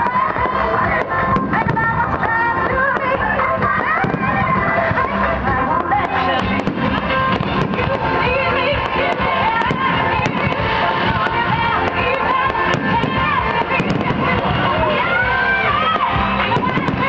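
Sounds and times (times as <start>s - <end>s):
firework bangs and crackles: 0.0s - 17.0s
pop song over sound system: 0.0s - 17.0s.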